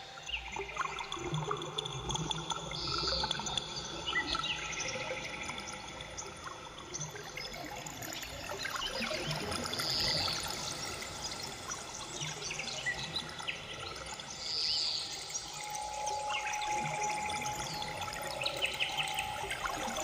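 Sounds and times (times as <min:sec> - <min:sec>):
flowing water: 0:00.5 - 0:20.0.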